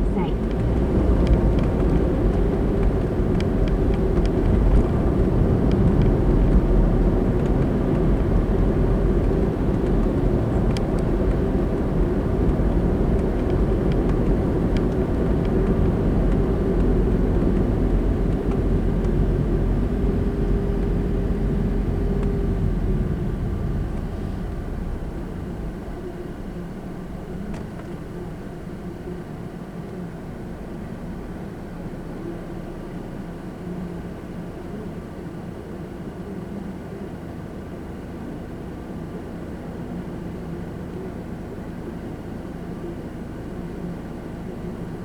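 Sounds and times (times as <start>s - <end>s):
car tyre and engine noise: 0.0s - 45.0s.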